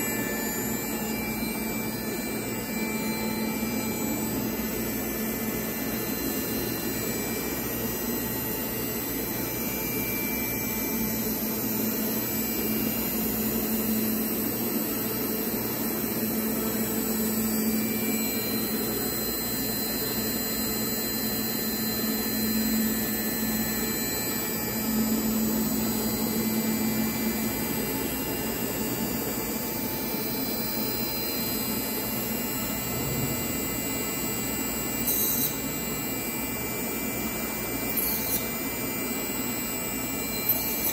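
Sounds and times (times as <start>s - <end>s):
industrial machinery whirring: 0.0s - 35.7s.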